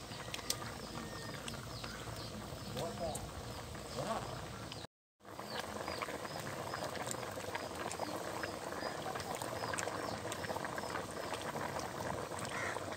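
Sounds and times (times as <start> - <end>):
curry boiling in a wok: 0.0 - 12.9.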